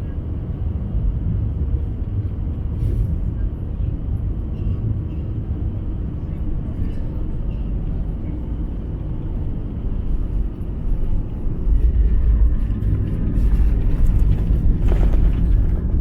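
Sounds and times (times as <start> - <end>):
aircraft cabin rumble: 0.0 - 16.0.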